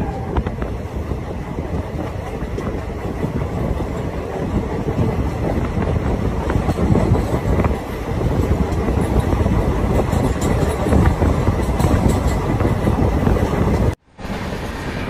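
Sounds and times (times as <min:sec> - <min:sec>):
train rumbling on track: 0:00.0 - 0:15.0
wind buffeting microphone: 0:00.0 - 0:15.0.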